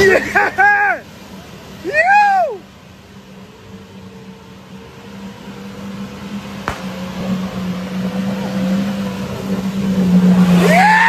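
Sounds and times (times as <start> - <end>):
driving through muddy puddle: 0.0 - 11.0
vehicle engine droning: 0.0 - 11.0.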